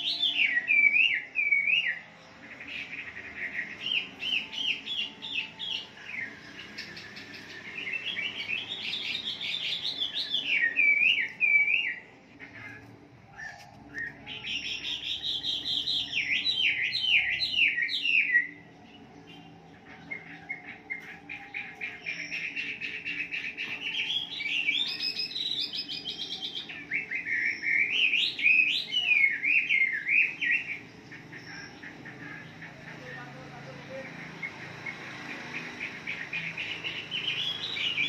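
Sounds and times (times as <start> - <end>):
bird singing warbling song: 0.0 - 38.0.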